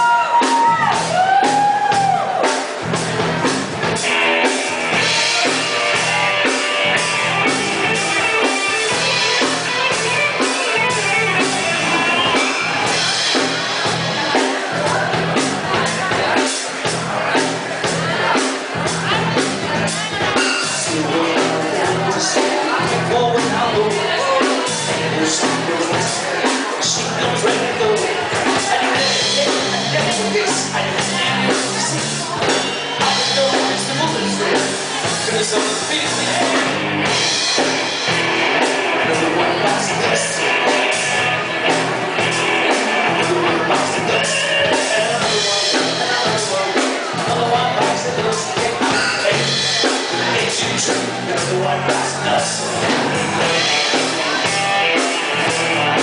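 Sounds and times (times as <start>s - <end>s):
rock band playing: 0.0s - 56.0s
person singing amplified: 4.9s - 56.0s.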